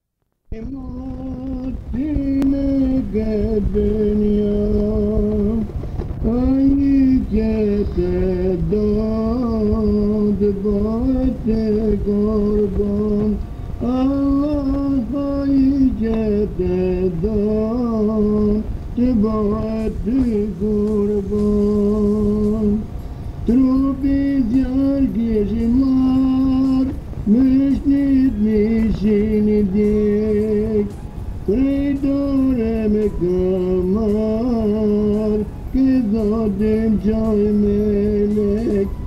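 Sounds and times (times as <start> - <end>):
person singing a hymn: 0.5 - 39.0.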